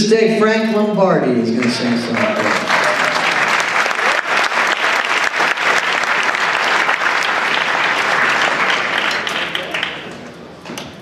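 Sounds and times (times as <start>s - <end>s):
audience applauding: 1.6s - 10.5s.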